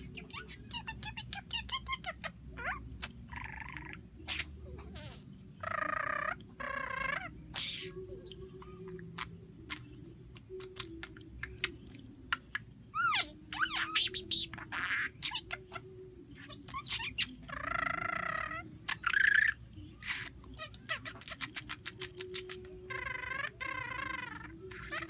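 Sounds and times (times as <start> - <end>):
budgerigar chattering: 0.0 - 25.0.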